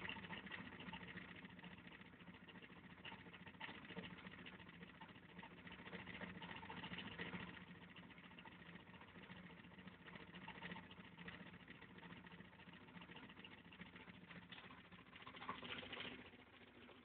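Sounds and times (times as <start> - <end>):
small motor humming and ticking: 0.0 - 17.0.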